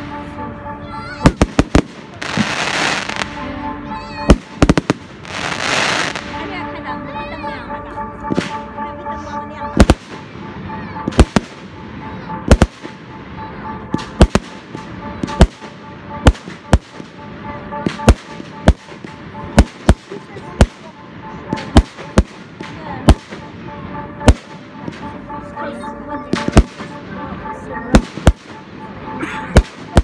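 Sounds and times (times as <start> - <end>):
fireworks bangs: 0.0 - 6.7, 8.2 - 8.8, 9.7 - 25.6, 26.2 - 30.0.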